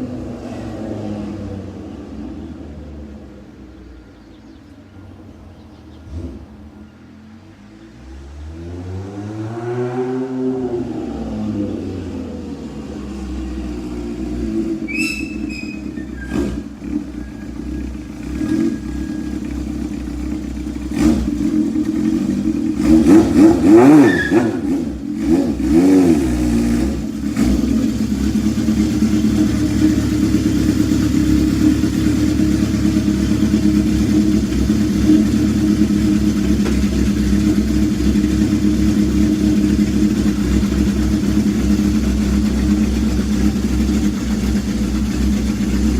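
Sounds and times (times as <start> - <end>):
motorcycle engine idling and revving: 0.0 - 45.9.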